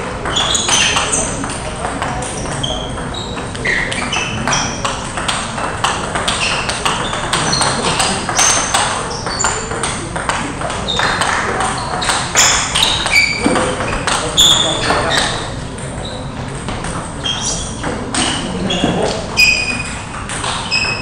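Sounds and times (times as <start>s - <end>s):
table tennis balls clicking and pinging: 0.0s - 21.0s.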